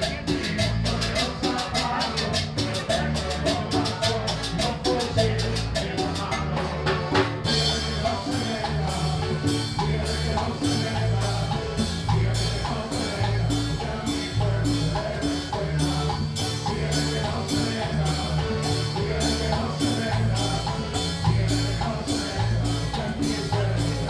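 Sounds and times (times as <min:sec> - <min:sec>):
live band dance music: 0:00.0 - 0:24.0.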